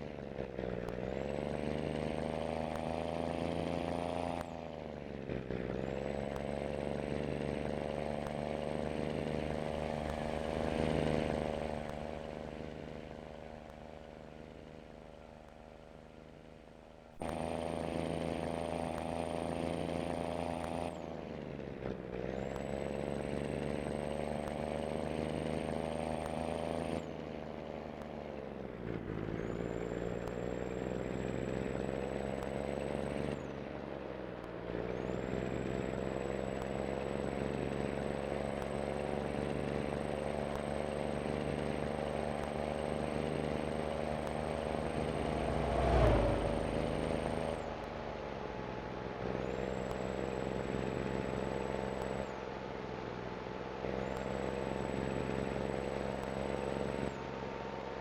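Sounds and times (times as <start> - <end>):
truck diesel engine accelerating: 0.0 - 58.0.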